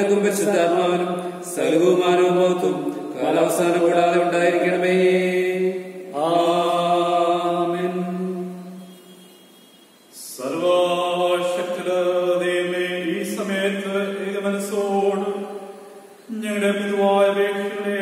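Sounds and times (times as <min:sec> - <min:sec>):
slow chant singing: 0:00.0 - 0:18.0.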